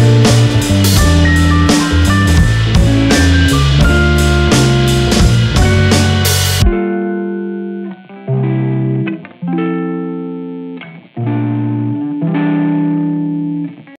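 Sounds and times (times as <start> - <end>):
plucked string chords: 0.0 - 13.7.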